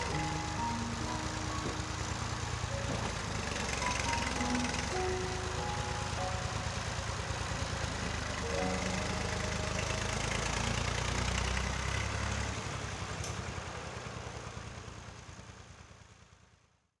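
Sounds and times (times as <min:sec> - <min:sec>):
tractor diesel engine running: 0:00.0 - 0:16.6.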